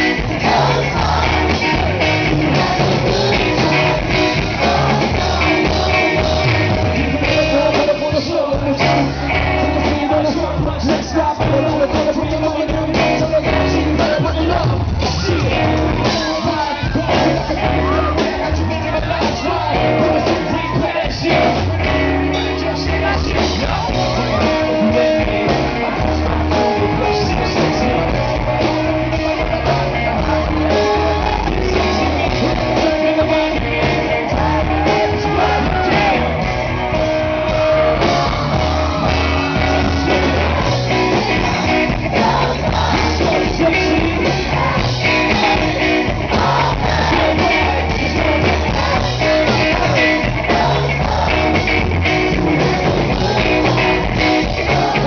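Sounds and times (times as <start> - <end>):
person singing and rapping: 0.0 - 36.5, 40.0 - 55.0
drums: 0.0 - 55.0
electric guitar: 0.0 - 55.0
keyboards: 0.0 - 55.0.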